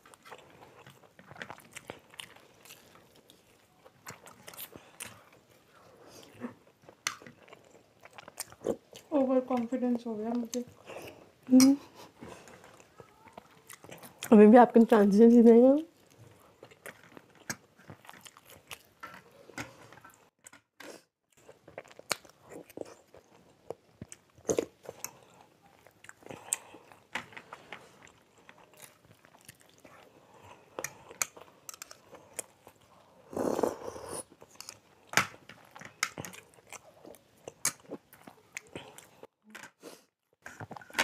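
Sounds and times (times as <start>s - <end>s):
people chewing: 0.0s - 15.0s, 15.9s - 41.0s.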